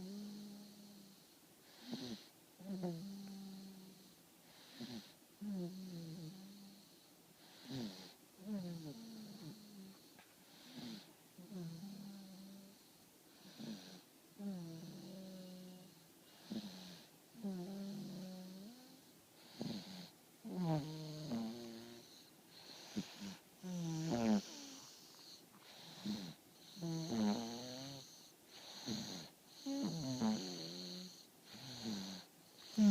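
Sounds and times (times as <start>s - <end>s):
man snoring: 1.7s - 4.0s, 4.6s - 6.8s, 7.5s - 12.8s, 13.4s - 32.9s.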